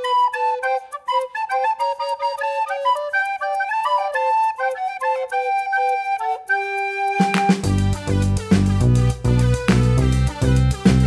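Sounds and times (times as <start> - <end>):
flute melody: 0.0 - 11.0.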